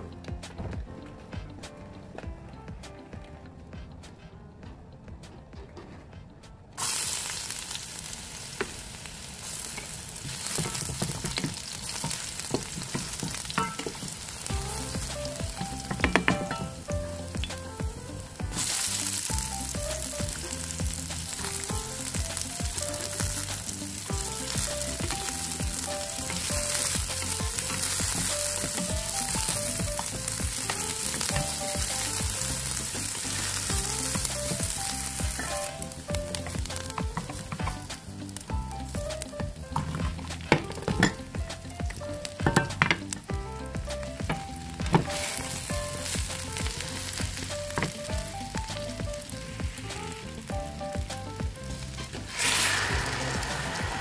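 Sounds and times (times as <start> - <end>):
background music: 0.0 - 54.0
onion and garlic sizzling in oil: 6.8 - 54.0.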